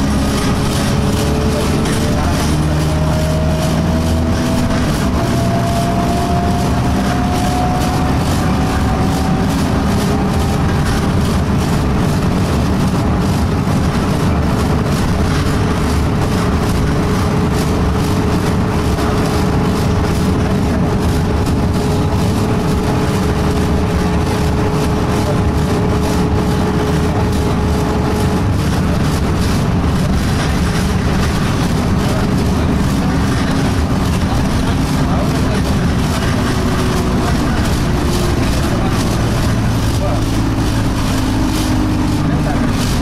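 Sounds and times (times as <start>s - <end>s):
bus engine and road noise: 0.0s - 43.0s
bus vibration rattle: 0.0s - 43.0s
rising whine: 0.0s - 43.0s.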